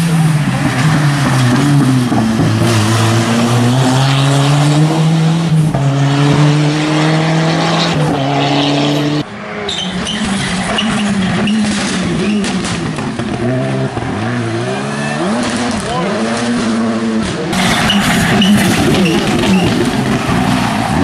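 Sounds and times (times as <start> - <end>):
noisy car: 0.0 - 21.0
rally car engines revving: 0.0 - 21.0.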